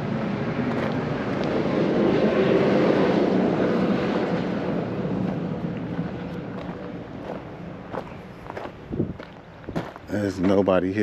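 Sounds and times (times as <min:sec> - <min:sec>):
vehicle passing by: 0:00.0 - 0:09.3.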